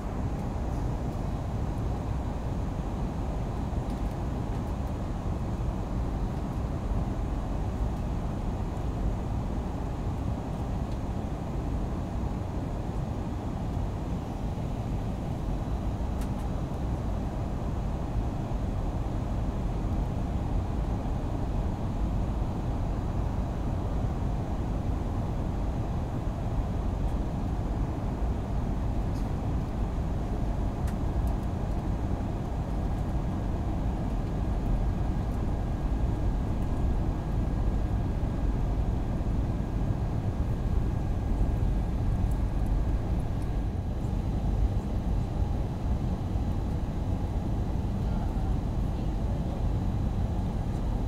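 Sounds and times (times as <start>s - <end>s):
faint steady hum: 0.0s - 51.0s
jet engine and airflow noise: 0.0s - 51.0s.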